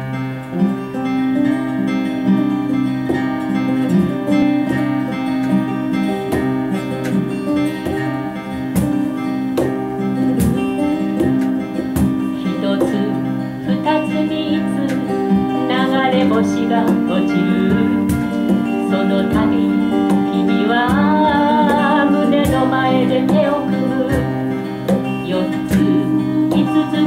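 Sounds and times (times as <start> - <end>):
acoustic guitars strumming: 0.0 - 27.0.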